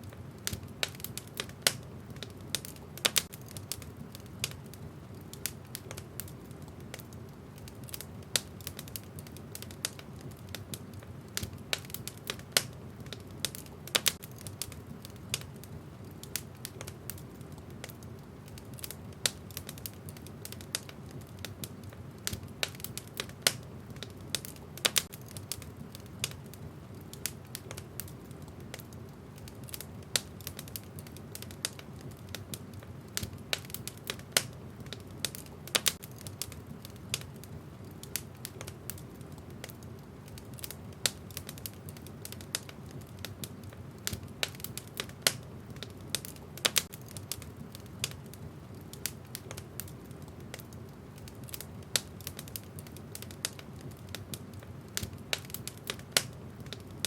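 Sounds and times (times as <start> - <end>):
low rush of flames: 0.0 - 57.0
wood fire crackling and popping: 0.0 - 57.0.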